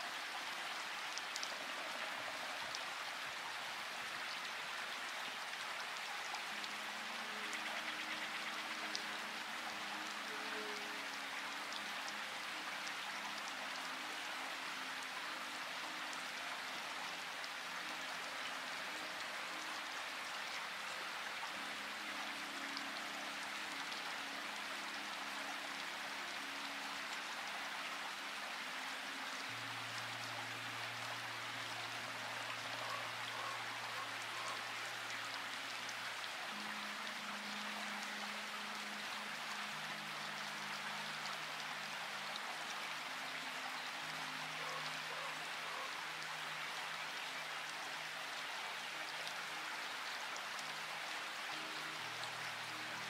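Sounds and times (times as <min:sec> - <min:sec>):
steady rain with drops ticking: 0:00.0 - 0:53.0.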